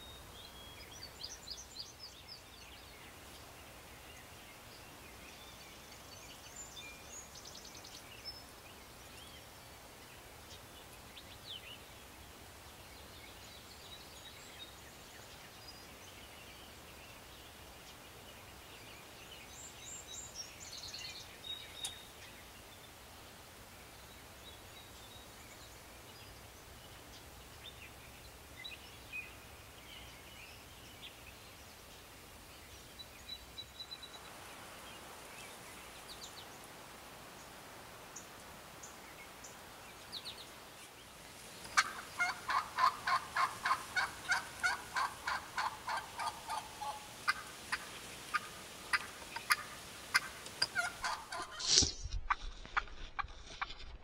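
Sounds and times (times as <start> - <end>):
low background hiss: 0.0 - 52.3
distant songbird chirps and trills: 0.0 - 54.0.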